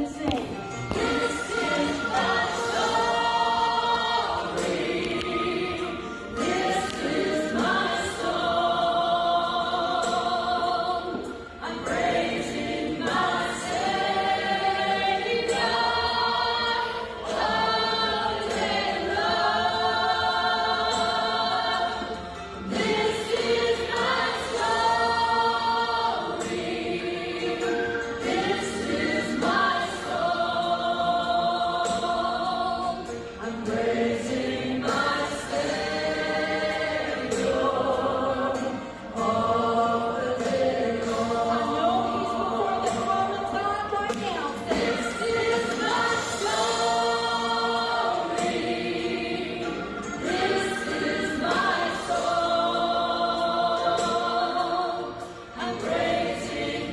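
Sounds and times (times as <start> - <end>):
women singing gospel: 0.0 - 56.9.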